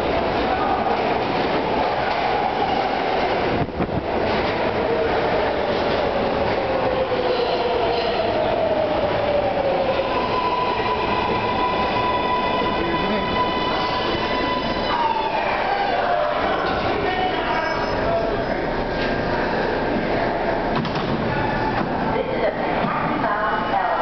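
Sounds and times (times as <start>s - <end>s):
subway train braking: 0.0s - 24.0s.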